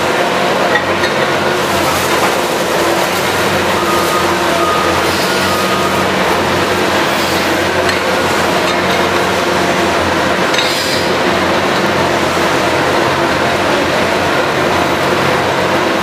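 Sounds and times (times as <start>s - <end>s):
engine and hydraulics drone: 0.0s - 16.0s.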